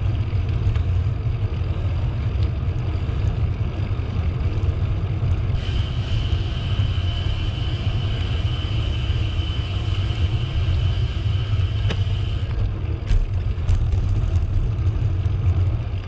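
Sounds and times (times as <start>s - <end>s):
bicycle tyre and wind rumble: 0.0s - 16.0s.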